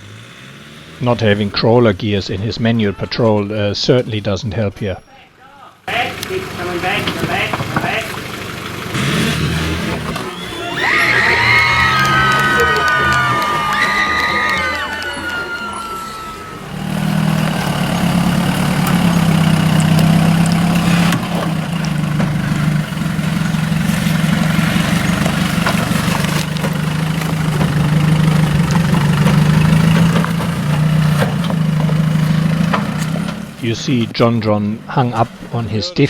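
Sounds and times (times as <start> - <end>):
vehicle engine running low: 5.9 - 35.9.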